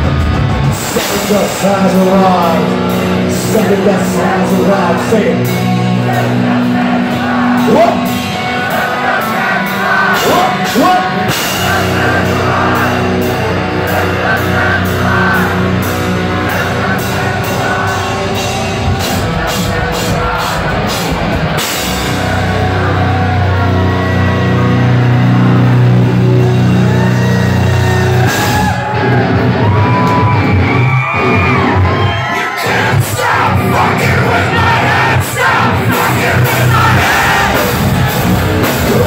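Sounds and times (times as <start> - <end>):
drum and cymbal hits: 0.0 - 27.2, 32.9 - 39.0
long held low guitar chords: 0.0 - 30.7, 32.9 - 39.0
metal band playing live: 0.0 - 39.0.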